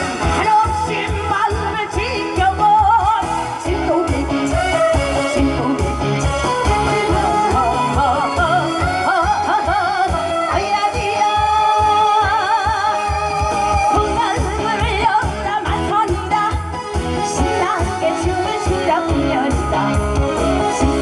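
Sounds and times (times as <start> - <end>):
backing track with bass beat: 0.0 - 21.0
woman singing into microphone: 0.0 - 21.0.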